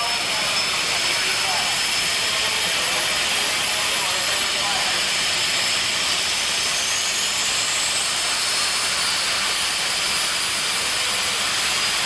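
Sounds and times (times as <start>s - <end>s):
jet turbine engine whining: 0.0s - 12.0s.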